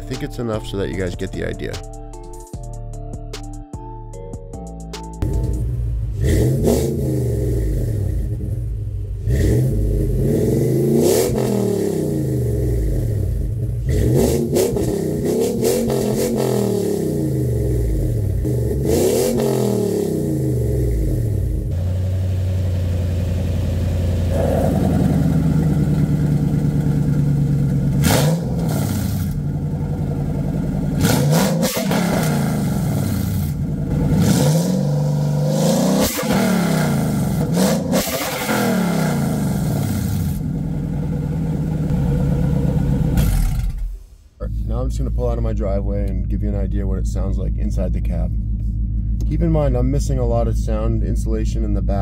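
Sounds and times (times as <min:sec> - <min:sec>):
car engine revving and idling: 0:05.2 - 0:52.0.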